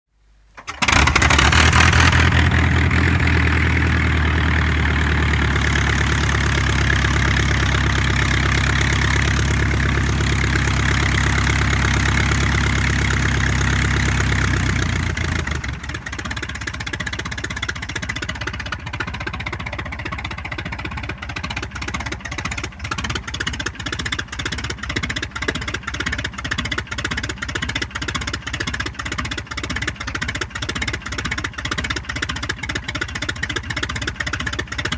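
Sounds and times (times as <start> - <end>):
piston aircraft engine running: 0.6 - 34.9.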